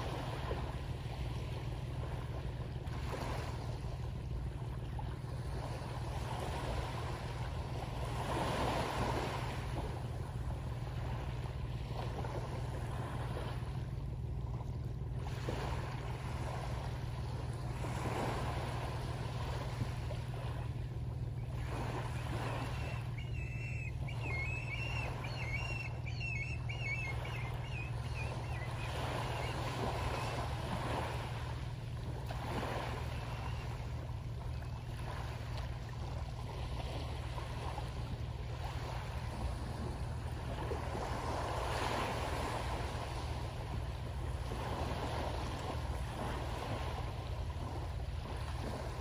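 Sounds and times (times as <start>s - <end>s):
waves on pebble shore: 0.0s - 3.9s, 5.2s - 13.9s, 15.2s - 49.0s
boat engine drone: 0.0s - 49.0s.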